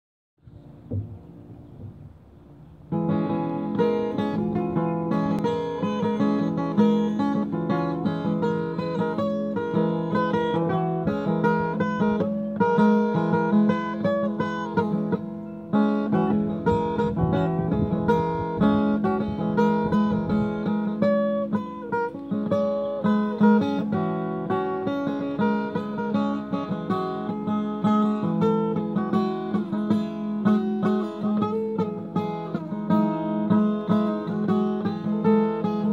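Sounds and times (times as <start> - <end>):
acoustic guitar playing: 0.4 - 35.9.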